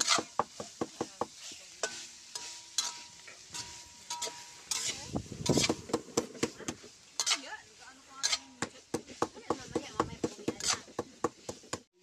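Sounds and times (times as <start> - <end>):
food sizzling: 0.0 - 12.0
metal spatula scraping a wok: 0.0 - 12.0.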